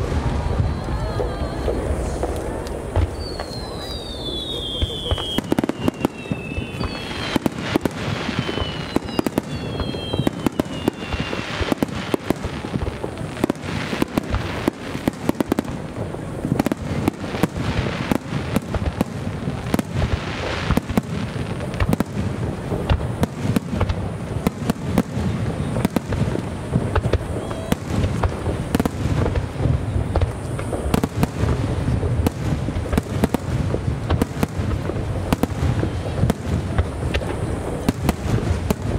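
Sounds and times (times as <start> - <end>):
fireworks bangs and crackling: 0.0 - 38.9
fireworks rumble: 0.0 - 38.9
whistling fireworks: 0.0 - 38.9.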